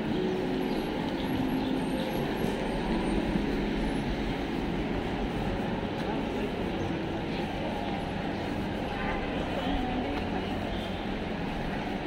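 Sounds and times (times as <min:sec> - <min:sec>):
faint voices of passers-by: 0:00.0 - 0:12.0
traffic noise: 0:00.0 - 0:12.0.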